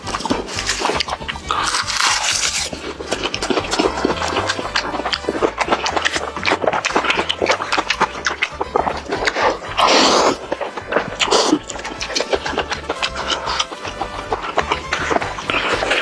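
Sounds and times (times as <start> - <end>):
crunching and chewing fried chicken: 0.0 - 16.0.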